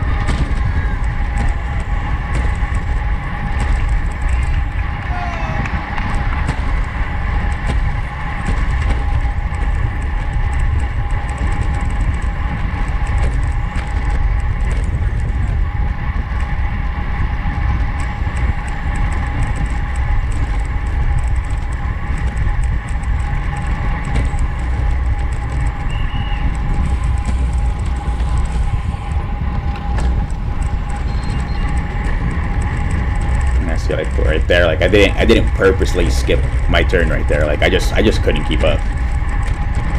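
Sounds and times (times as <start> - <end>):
bike high whir: 0.0 - 39.9
wind buffeting microphone: 0.0 - 39.9.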